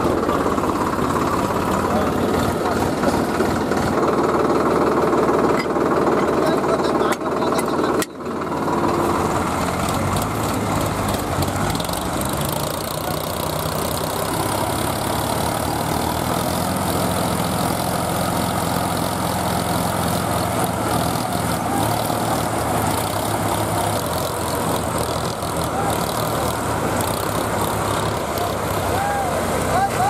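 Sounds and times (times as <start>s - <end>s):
diesel tractor engines under load: 0.0s - 30.0s.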